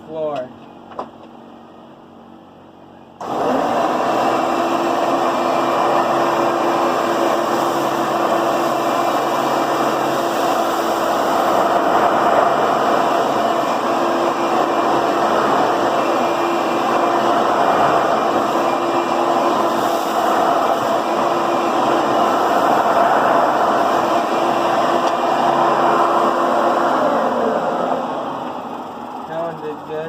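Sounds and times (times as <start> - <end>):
vacuum cleaner running: 3.2 - 30.0.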